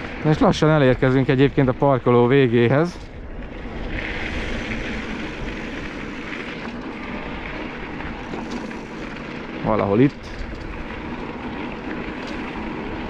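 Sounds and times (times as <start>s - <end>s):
bicycle tyres on dirt track: 0.0s - 13.0s.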